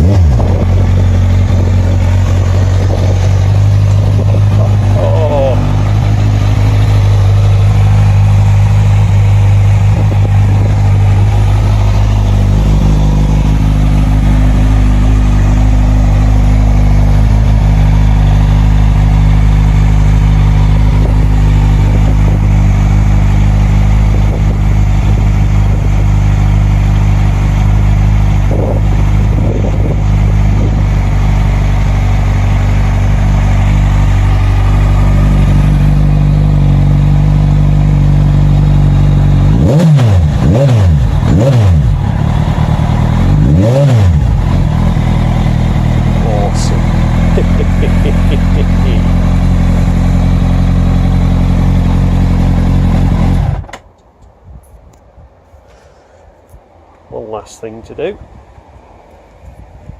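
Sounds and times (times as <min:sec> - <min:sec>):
motorcycle engine idling loudly: 0:00.0 - 0:53.7.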